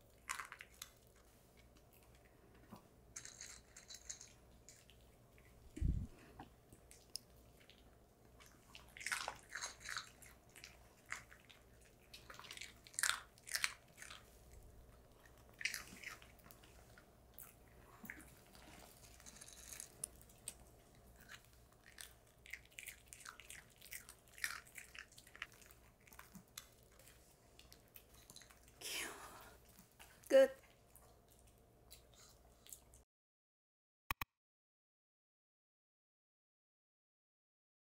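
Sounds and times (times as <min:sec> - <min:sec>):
dogs chewing crunchy treats: 0:00.0 - 0:05.6, 0:06.7 - 0:33.0.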